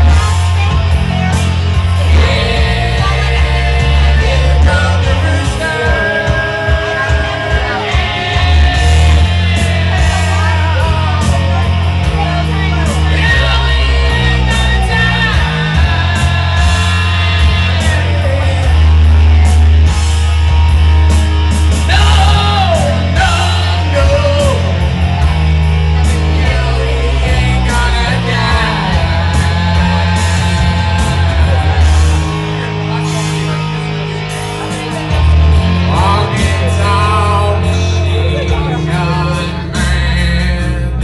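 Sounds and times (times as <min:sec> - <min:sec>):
person singing rock song: 0:00.0 - 0:41.0
rock backing track: 0:00.0 - 0:41.0.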